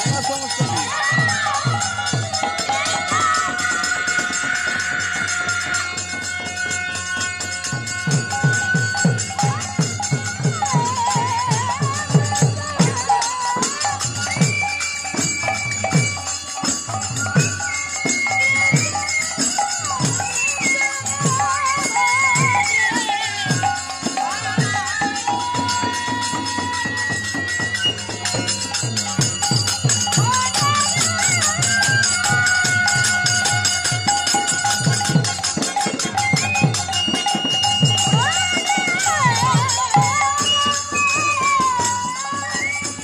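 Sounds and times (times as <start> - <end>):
bamboo flute: 0.0 - 43.0
hand drums beating: 0.0 - 43.0
harmonium: 0.0 - 43.0
jingling metal percussion: 0.0 - 43.0
woman singing: 0.0 - 43.0.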